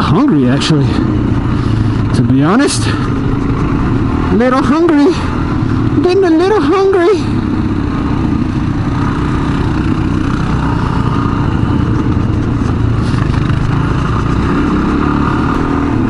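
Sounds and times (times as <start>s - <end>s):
motorcycle engine running: 0.0s - 16.0s
trail noise: 0.0s - 16.0s.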